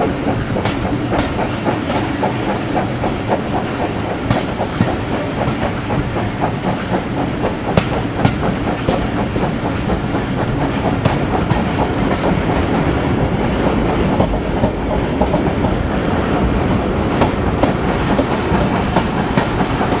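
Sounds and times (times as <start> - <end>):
train rumble on track: 0.0 - 20.0
train wheels clickety-clack: 0.0 - 20.0.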